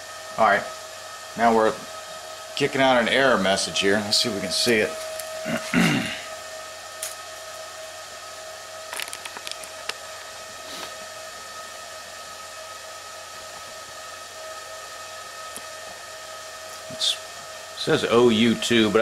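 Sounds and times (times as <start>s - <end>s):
faint steady whine: 0.0s - 19.0s
machine hum and hiss: 0.0s - 19.0s.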